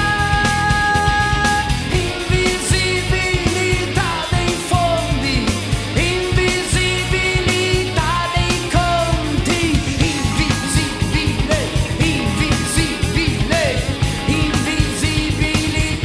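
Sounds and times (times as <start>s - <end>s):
rock song with vocals: 0.0s - 16.0s.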